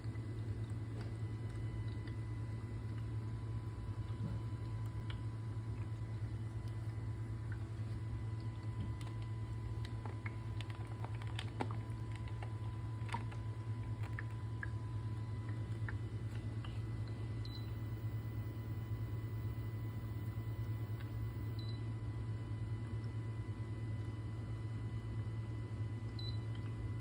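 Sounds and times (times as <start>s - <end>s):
humidifier humming: 0.0s - 27.0s.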